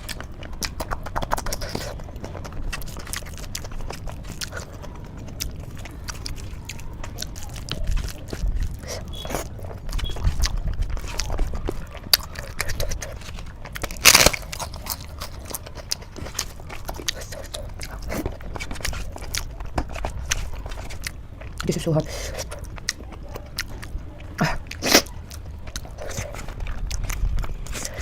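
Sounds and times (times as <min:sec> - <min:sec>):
chewing with wet mouth clicks: 0:00.0 - 0:28.0.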